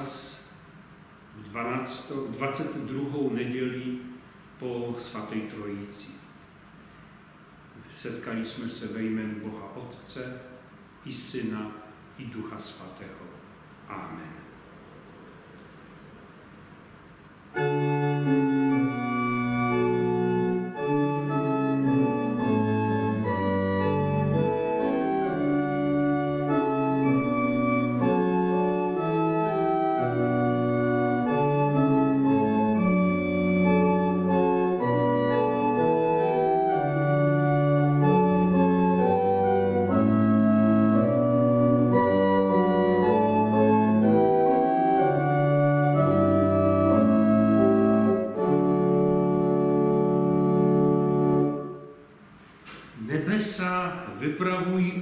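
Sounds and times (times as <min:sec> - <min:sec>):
church organ chords: 0:01.2 - 0:06.3, 0:07.8 - 0:13.3, 0:17.4 - 0:52.2.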